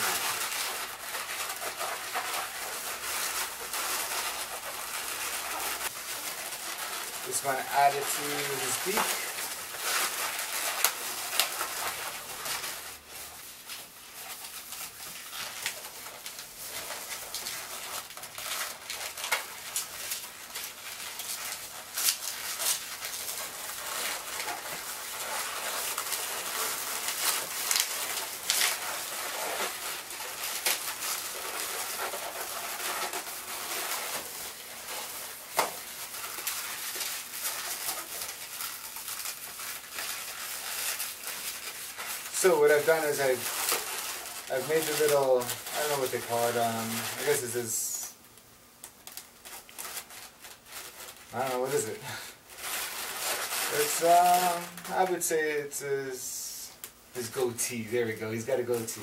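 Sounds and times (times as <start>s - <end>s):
balloons squeaking and rubbing: 0.0s - 48.1s, 48.9s - 59.0s.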